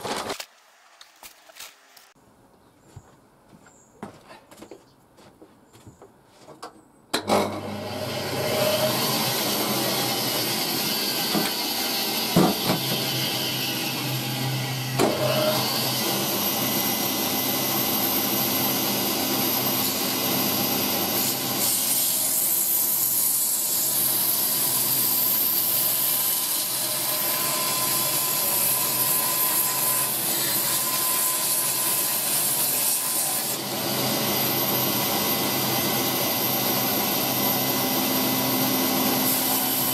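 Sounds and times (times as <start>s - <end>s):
tool cutting spinning wood: 7.2s - 39.9s.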